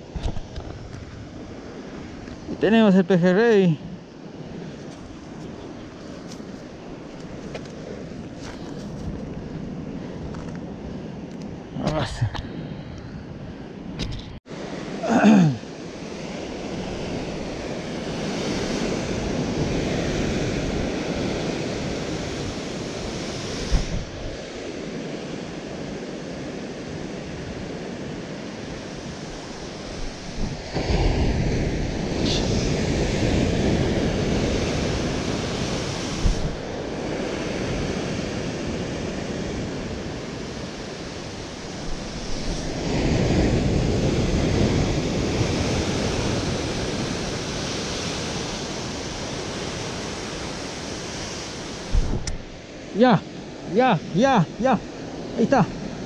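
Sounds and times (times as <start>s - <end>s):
ocean surf breaking on rocks: 0.0s - 12.6s, 13.2s - 56.0s.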